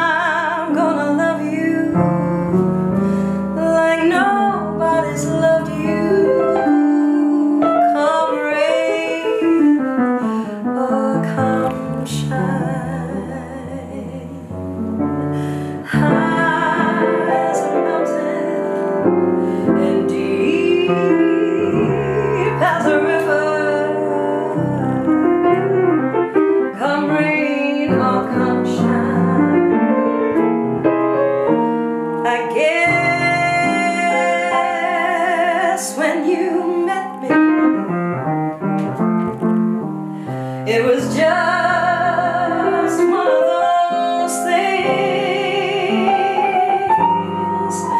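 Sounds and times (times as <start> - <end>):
woman singing: 0.0 - 2.5, 3.4 - 30.2, 32.2 - 38.0, 40.6 - 47.9
grand piano jazz ballad: 0.0 - 47.9.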